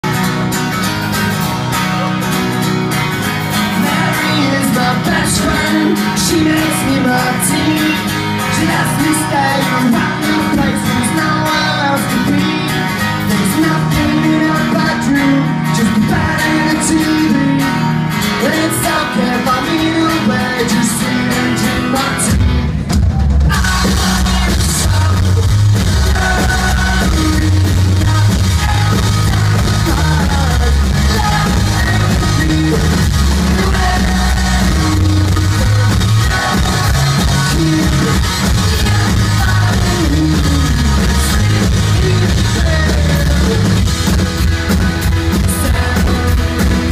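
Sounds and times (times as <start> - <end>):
live rock band playing: 0.0 - 46.9
person singing: 3.4 - 22.5, 23.4 - 43.9, 44.7 - 46.9.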